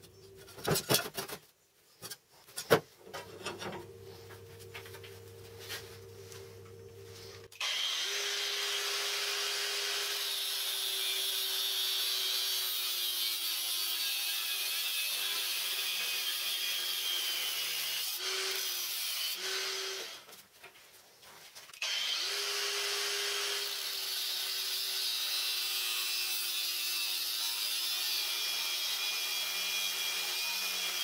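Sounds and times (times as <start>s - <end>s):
angle grinder cutting steel: 3.3s - 20.2s, 21.8s - 31.0s.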